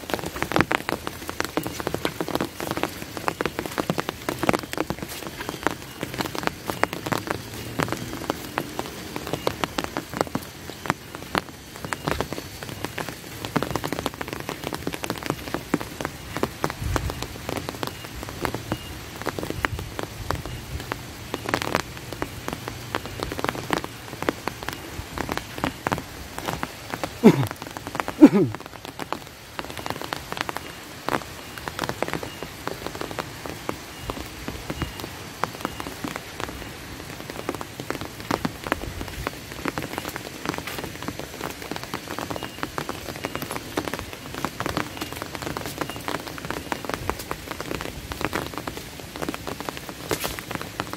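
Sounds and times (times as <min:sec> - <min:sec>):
raindrop taps: 0:00.0 - 0:50.9
steady rain: 0:00.0 - 0:50.9.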